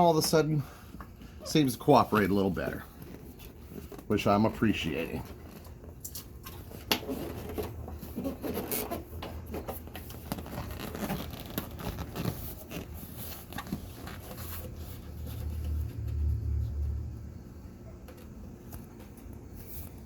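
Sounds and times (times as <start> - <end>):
rustling and scraping of molding: 0.0 - 17.0.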